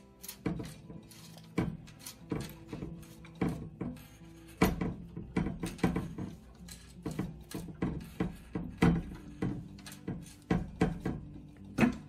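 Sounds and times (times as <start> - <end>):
metal hardware knocking on tube: 0.2 - 12.0.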